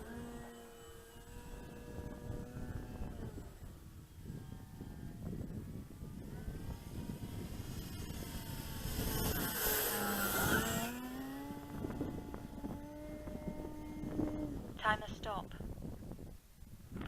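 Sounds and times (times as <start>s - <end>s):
model plane motor whine: 0.0s - 14.8s
wind rumbling on microphone: 0.0s - 17.0s.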